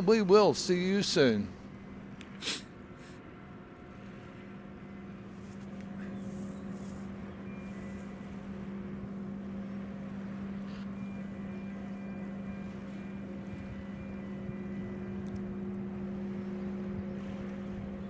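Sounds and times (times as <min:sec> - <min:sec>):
ship machinery hum: 0:00.0 - 0:18.0.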